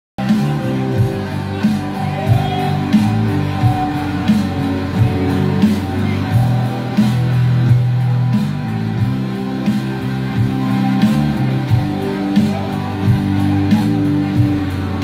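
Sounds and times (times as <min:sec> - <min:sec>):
drum kit beat: 0:00.2 - 0:15.0
live rock band playing: 0:00.2 - 0:15.0.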